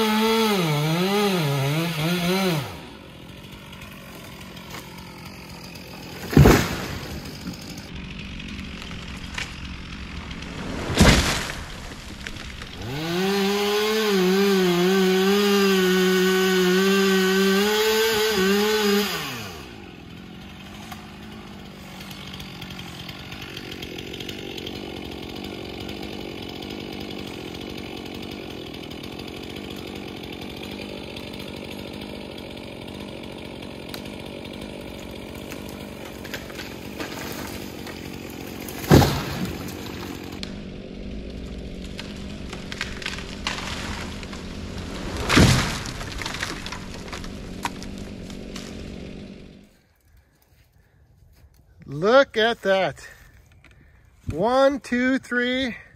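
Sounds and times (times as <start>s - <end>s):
chainsaw at full throttle: 0.0s - 49.9s, 51.9s - 55.9s.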